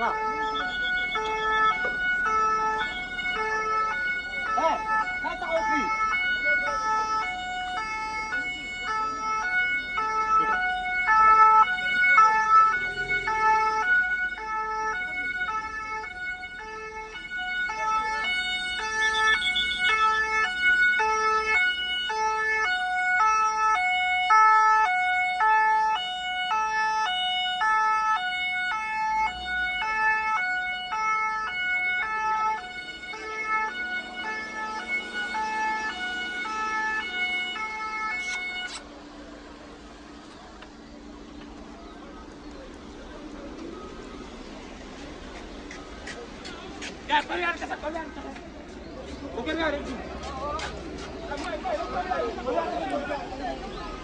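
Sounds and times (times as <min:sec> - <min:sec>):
two-tone emergency sirens: 0:00.0 - 0:54.0.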